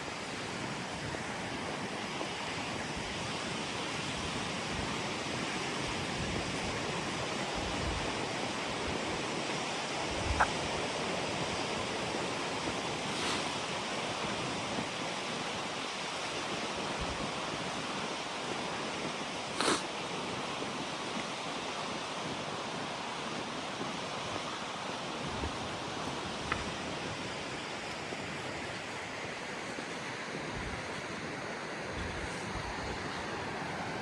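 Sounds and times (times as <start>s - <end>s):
wind buffeting microphone: 0.0s - 19.2s, 20.1s - 34.0s.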